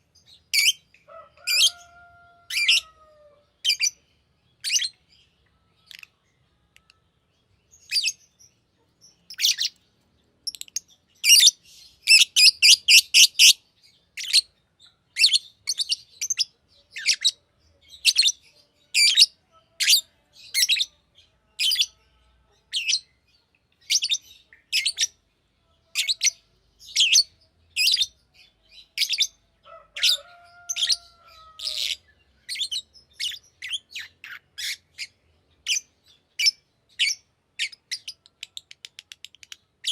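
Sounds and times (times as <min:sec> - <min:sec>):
lovebird chirping: 0:00.0 - 0:22.1, 0:22.7 - 0:25.2, 0:25.8 - 0:29.4, 0:30.0 - 0:39.9.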